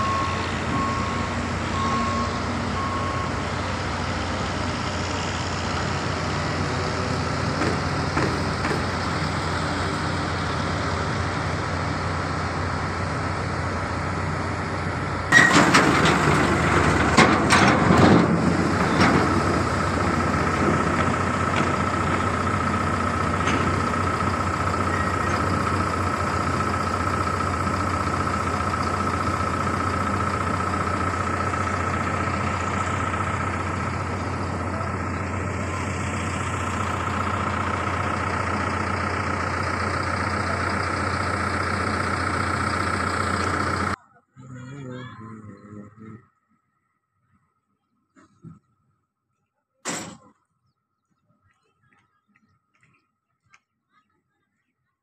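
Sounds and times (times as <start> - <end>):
truck reversing beeper: 0.0 - 46.4
diesel engine drone: 0.0 - 46.6.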